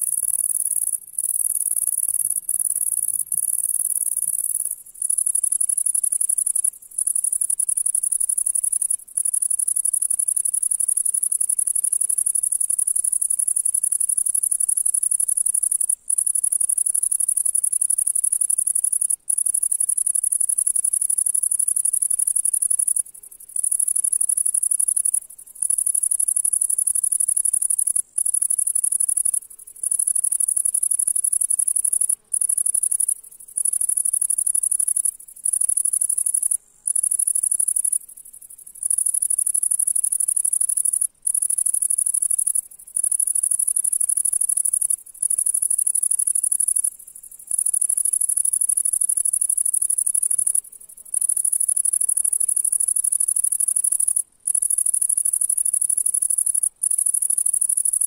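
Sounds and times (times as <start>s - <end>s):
bush-cricket high-pitched trill: 0.0s - 58.0s.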